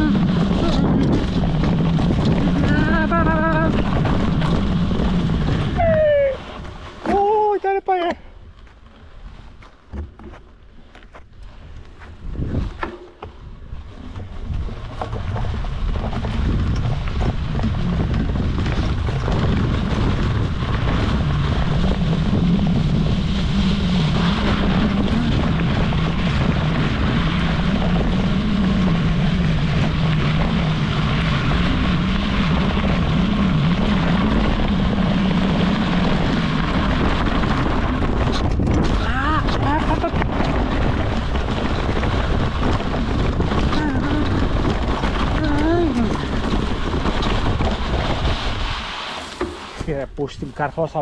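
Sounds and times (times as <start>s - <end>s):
bicycle tyres rolling on gravel: 0.0s - 51.0s.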